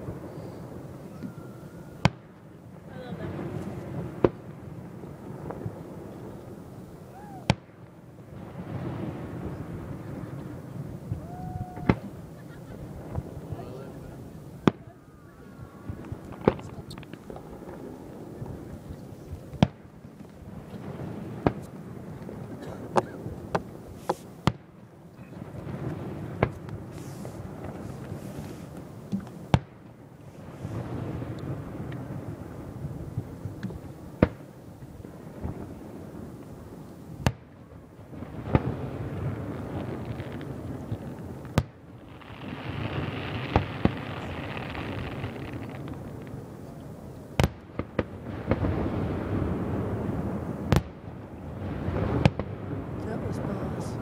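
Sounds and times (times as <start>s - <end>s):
fireworks bangs: 0.0s - 54.0s
low background noise: 0.0s - 54.0s.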